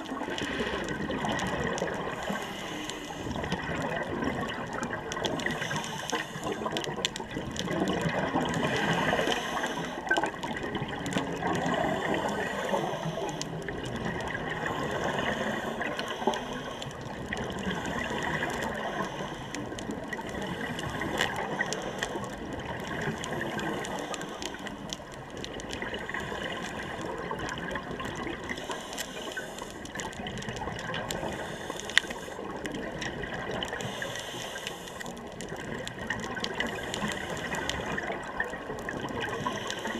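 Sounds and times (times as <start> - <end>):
underwater exhaust bubbles rushing: 0.0 - 39.9.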